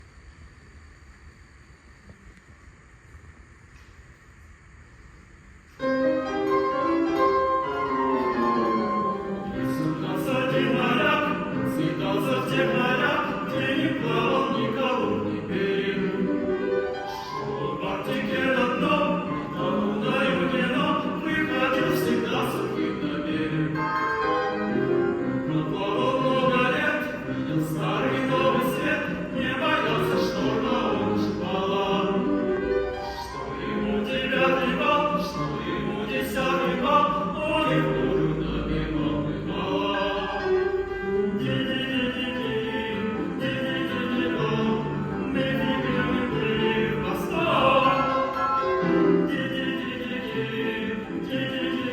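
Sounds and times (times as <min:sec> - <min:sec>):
piano accompaniment: 0:05.8 - 0:51.9
men singing: 0:08.4 - 0:51.9.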